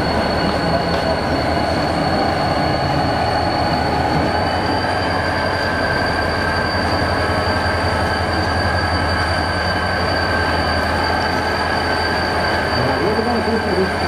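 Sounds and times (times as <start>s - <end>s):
diesel locomotive engine rumbling: 0.0s - 14.0s
steady high whine: 0.0s - 14.0s.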